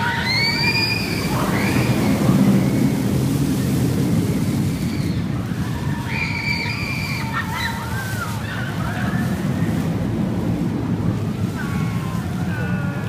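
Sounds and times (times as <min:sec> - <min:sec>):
riders screaming: 0:00.0 - 0:13.0
roller coaster rumbling on track: 0:00.0 - 0:13.0.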